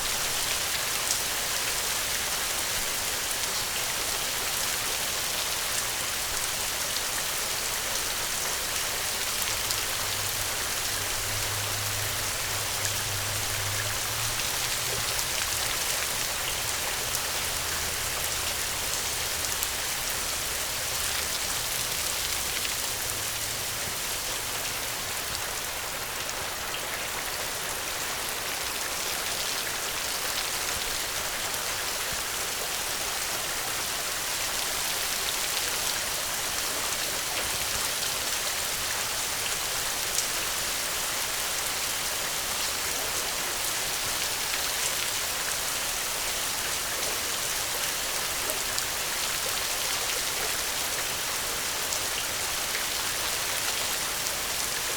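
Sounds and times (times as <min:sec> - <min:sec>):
steady rain pattering: 0:00.0 - 0:54.9.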